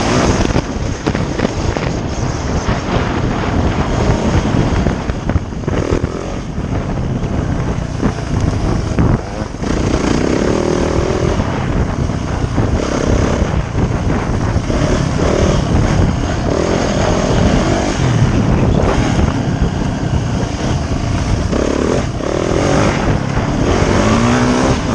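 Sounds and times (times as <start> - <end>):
dirt bike engine revving: 0.0 - 24.9
wind noise on microphone: 0.0 - 24.9.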